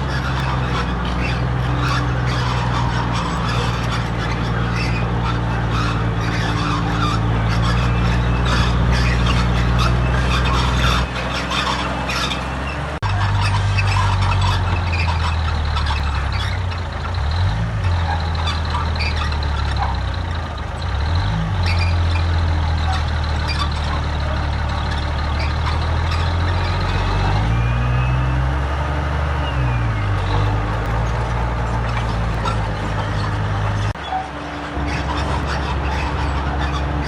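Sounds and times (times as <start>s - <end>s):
clanks and rattles: 0.0s - 27.4s, 30.2s - 37.0s
diesel machinery engine drone: 0.0s - 37.0s.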